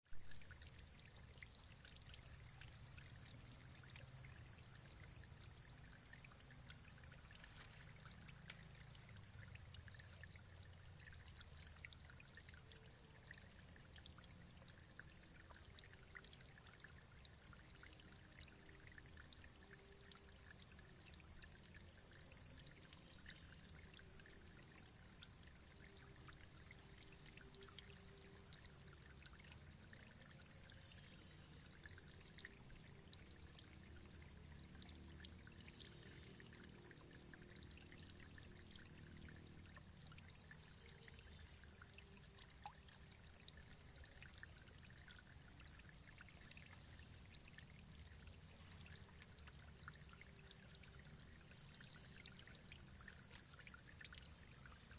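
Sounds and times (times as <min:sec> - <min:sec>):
stream trickling: 0:00.1 - 0:54.9
water drips: 0:00.4 - 0:54.9.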